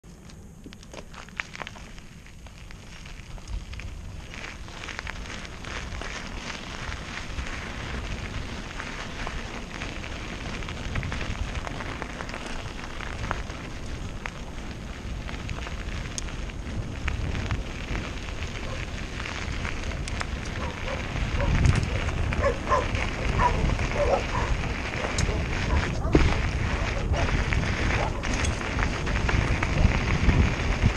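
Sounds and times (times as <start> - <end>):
bike tyres crunching on gravel: 0.0 - 30.9.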